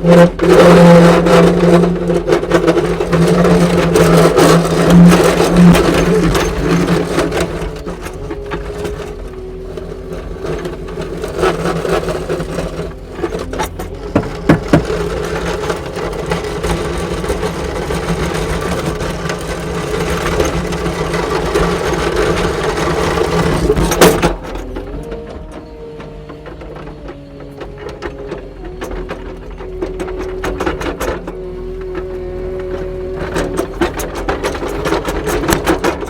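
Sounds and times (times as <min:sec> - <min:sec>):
diesel engine running hard: 0:00.0 - 0:36.0.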